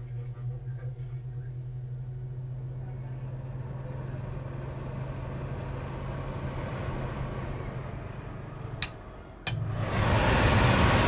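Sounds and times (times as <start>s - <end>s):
range hood fan humming: 0.0s - 11.0s.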